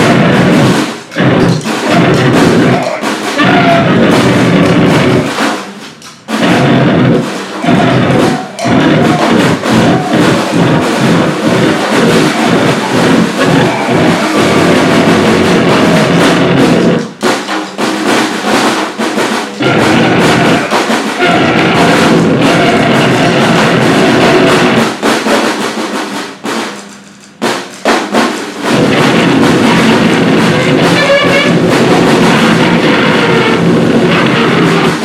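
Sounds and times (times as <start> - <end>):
fast dense drumming: 0.0 - 35.0
harsh noise music: 0.0 - 35.0.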